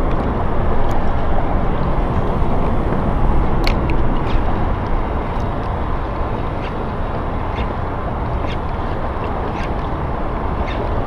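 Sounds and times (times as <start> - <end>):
water lapping at boat: 0.0 - 11.0
wind buffeting microphone: 0.0 - 11.0.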